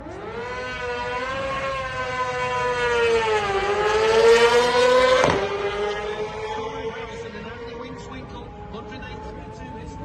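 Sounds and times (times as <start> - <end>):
racing engine revving: 0.0 - 10.0.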